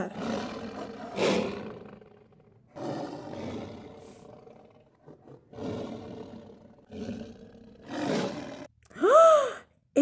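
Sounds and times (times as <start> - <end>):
lion roaring: 0.0 - 8.7.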